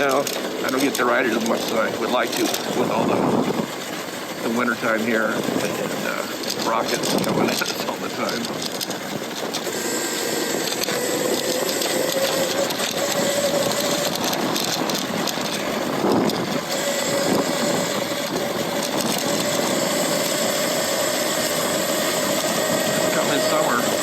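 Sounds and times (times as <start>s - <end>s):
electric motor whining: 0.0s - 24.0s
wind and road rush: 0.0s - 24.0s.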